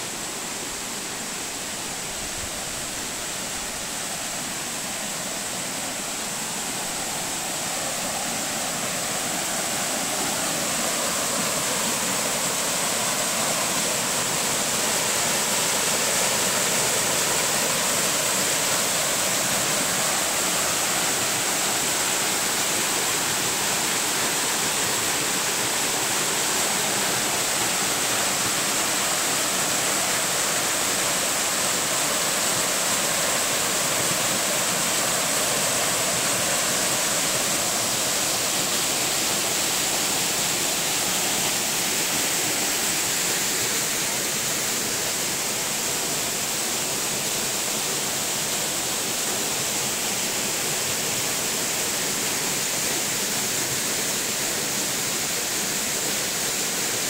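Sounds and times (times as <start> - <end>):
waterfall crashing onto rocks: 0.0 - 57.0.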